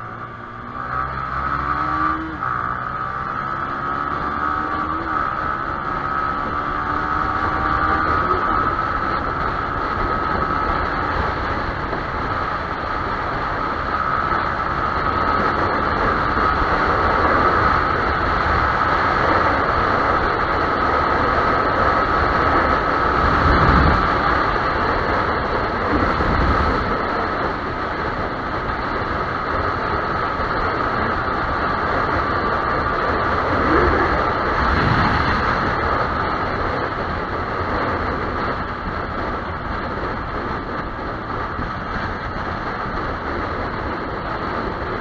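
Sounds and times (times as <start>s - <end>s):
motorcycle engine whine: 0.0s - 45.0s
wind and road noise: 0.0s - 45.0s.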